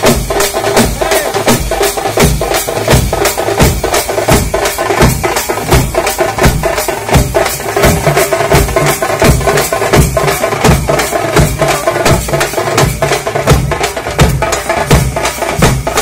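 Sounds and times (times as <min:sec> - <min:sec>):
fast loud drumming: 0:00.0 - 0:16.0.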